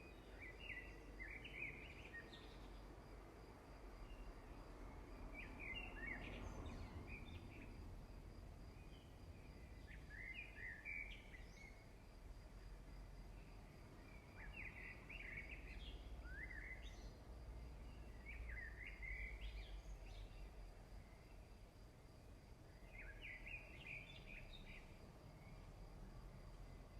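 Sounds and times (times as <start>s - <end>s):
faint bird song: 0.0s - 26.9s.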